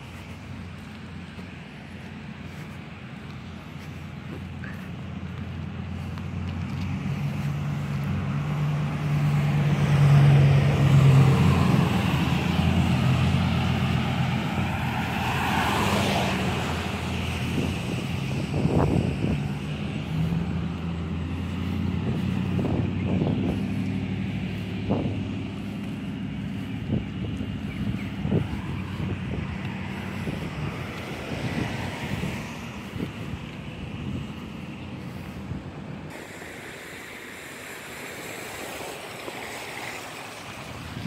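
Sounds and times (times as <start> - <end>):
car tyres hissing on wet road: 0.0 - 41.0
vehicle engine humming: 0.0 - 41.0.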